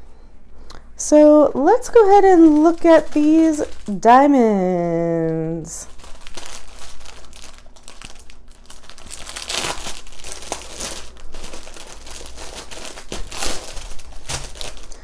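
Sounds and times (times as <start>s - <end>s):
plastic bags crinkling: 1.5s - 15.0s.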